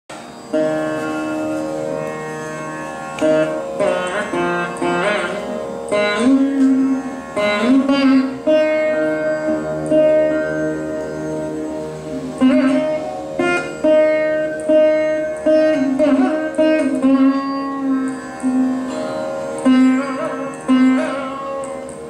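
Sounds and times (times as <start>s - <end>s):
veena plucked notes: 0.1s - 22.0s.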